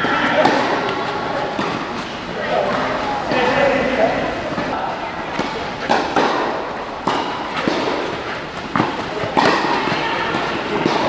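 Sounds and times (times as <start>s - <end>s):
tennis rackets hitting ball: 0.0s - 11.0s.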